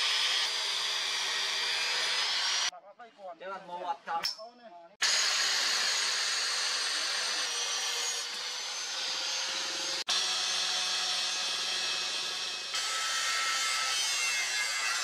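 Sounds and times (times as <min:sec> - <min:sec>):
angle grinder cutting steel: 0:00.0 - 0:02.7, 0:05.0 - 0:15.0.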